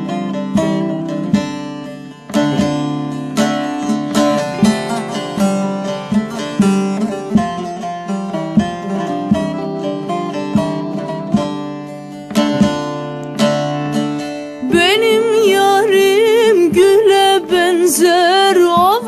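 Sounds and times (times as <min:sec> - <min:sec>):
folk music with plucked strings: 0:00.0 - 0:19.0.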